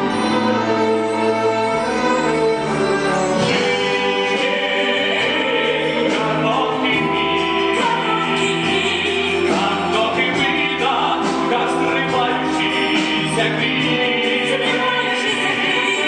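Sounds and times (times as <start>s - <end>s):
ensemble singing as a choir: 0.0s - 16.0s.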